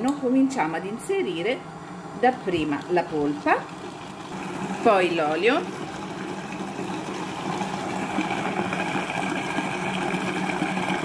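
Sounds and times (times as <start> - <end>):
food processor motor hum: 1.0 - 11.0.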